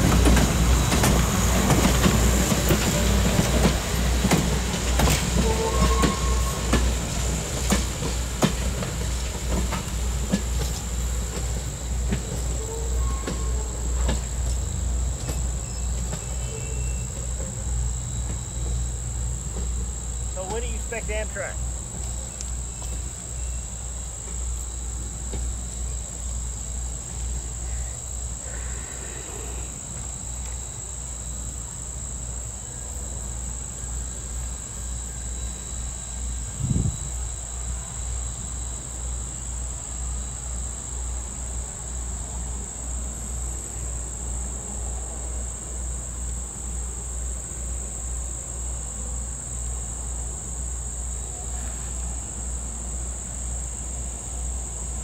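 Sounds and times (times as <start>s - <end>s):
insects droning in chorus: 0.0s - 55.0s.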